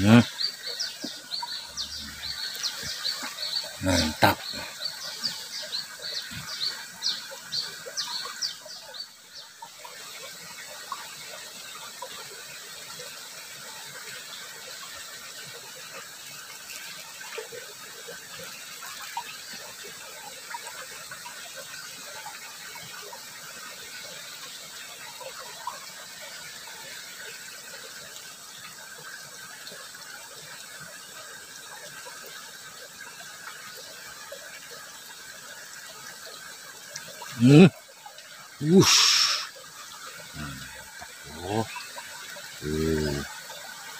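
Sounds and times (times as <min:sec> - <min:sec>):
water rippling in ditch: 0:00.0 - 0:43.9.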